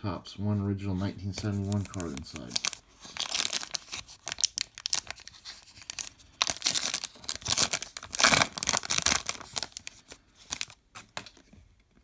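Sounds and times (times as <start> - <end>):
wrapper tearing and crinkling: 1.6 - 11.5.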